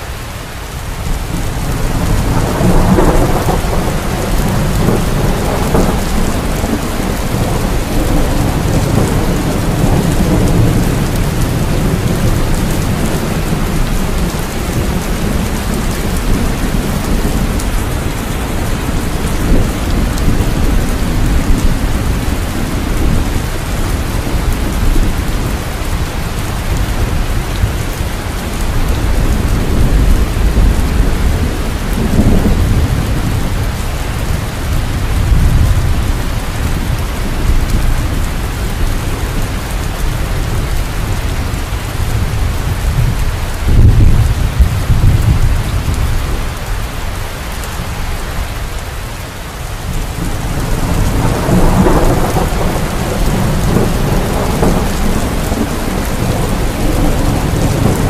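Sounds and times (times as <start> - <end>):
heavy rain: 0.0 - 58.0
low rolling thunder: 0.9 - 48.8, 49.7 - 58.0.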